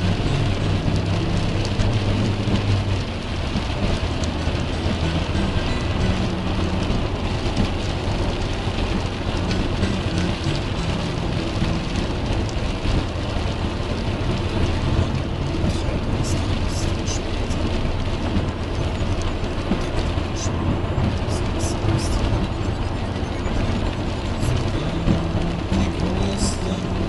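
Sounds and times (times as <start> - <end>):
low engine hum: 0.0 - 27.0
rain on windscreen: 0.0 - 27.0
raindrop ticks: 0.0 - 27.0
tyres on wet road: 0.0 - 27.0.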